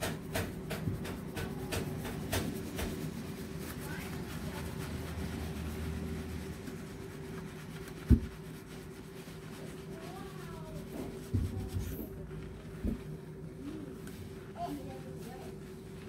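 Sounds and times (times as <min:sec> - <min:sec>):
hands rubbing wet lathered hair: 0:00.0 - 0:16.0
steady low hum: 0:00.0 - 0:16.0.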